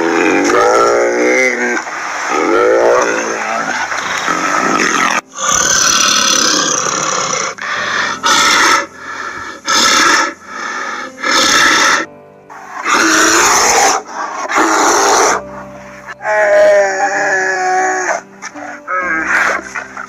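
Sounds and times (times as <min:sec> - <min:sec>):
bear calls: 0:00.0 - 0:12.1, 0:12.8 - 0:20.0
background music: 0:00.0 - 0:20.0.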